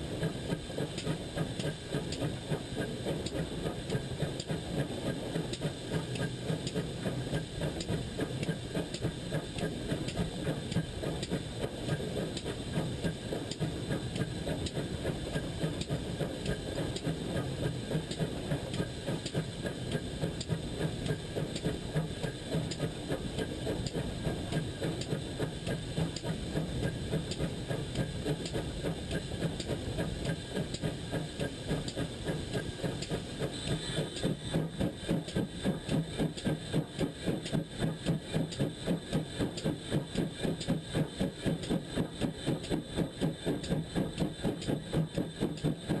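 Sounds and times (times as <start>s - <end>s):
steam locomotive running: 0.0s - 46.0s.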